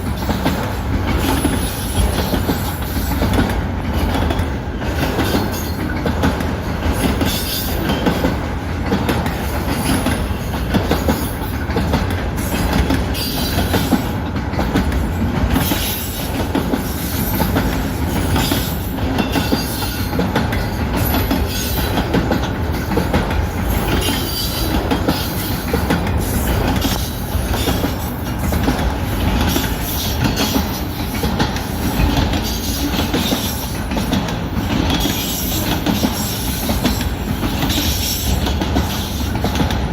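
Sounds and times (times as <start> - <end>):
freight train cars rolling past: 0.0 - 39.9
steel wheels clicking over rails: 0.0 - 39.9.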